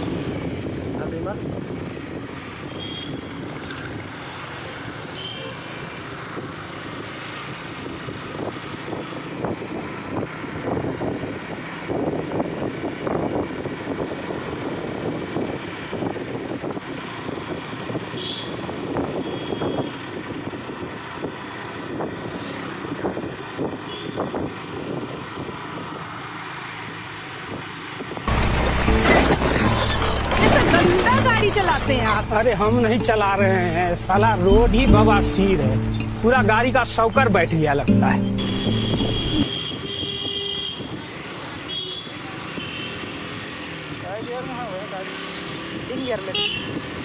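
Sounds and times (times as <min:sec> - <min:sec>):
motorcycle engine and road noise: 0:00.0 - 0:47.0.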